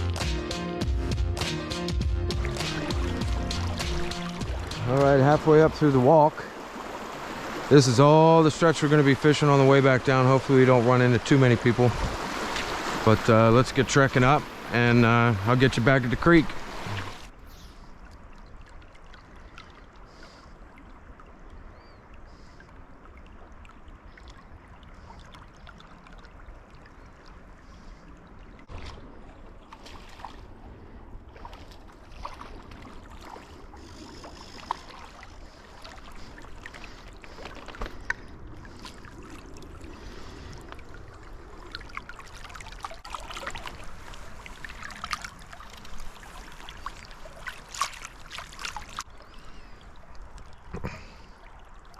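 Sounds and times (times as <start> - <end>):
creek water running: 1.7 - 51.9.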